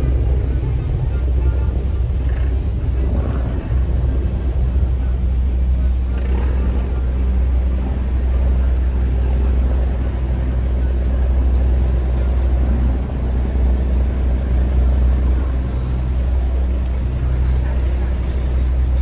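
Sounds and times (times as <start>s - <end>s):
boat engine drone: 0.0s - 19.0s
low hum tones: 0.0s - 19.0s.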